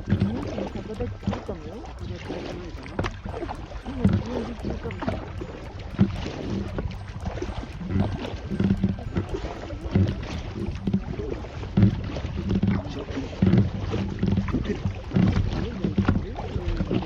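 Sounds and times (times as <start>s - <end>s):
paddle strokes splashing water: 0.0s - 17.0s.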